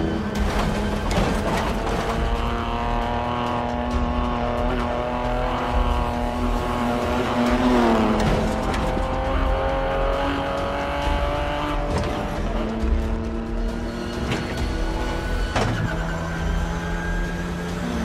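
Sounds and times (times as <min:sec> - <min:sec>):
racing car engine at high revs: 0:00.0 - 0:18.0.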